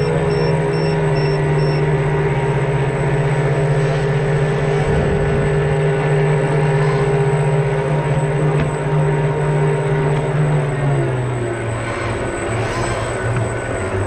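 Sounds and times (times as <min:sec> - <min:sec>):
model boat motors humming: 0:00.0 - 0:14.0.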